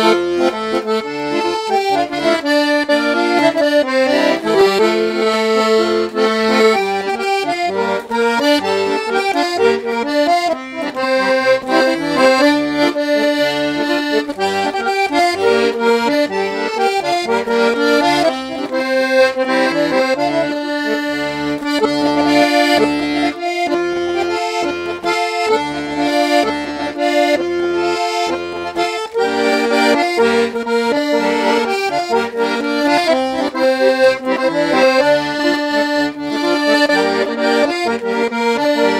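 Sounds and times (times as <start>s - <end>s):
accordion playing a melody: 0.0s - 38.9s.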